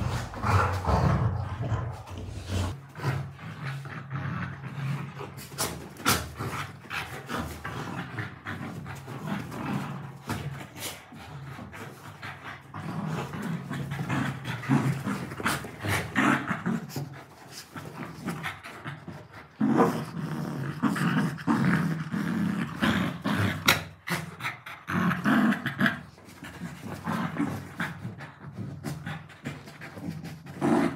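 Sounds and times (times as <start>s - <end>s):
dogs growling playfully: 0.0s - 30.9s.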